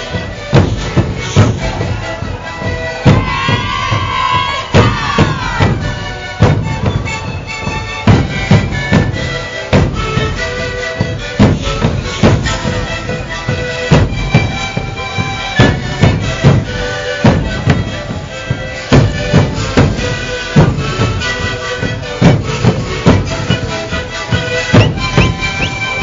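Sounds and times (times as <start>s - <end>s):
bass drums beating: 0.0s - 26.0s
panpipes playing droning melody: 0.0s - 26.0s.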